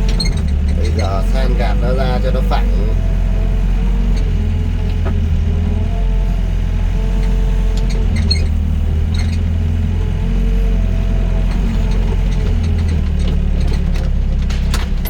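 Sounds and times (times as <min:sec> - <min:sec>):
hydraulic whine: 0:00.0 - 0:15.0
mini excavator diesel engine: 0:00.0 - 0:15.0.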